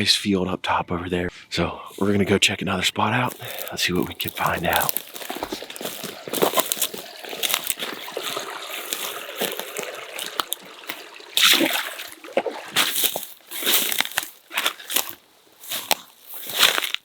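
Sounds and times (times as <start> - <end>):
footsteps through brush and grass: 1.9 - 2.3, 3.0 - 17.0.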